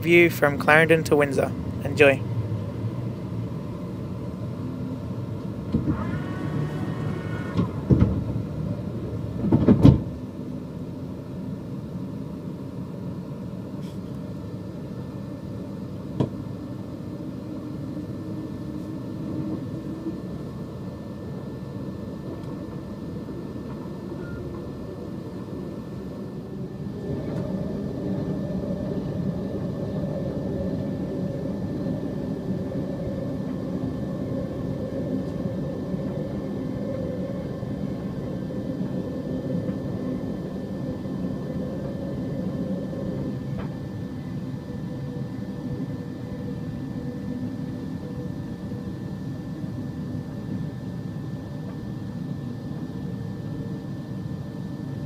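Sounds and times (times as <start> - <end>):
electric train rumble: 0.0 - 55.0.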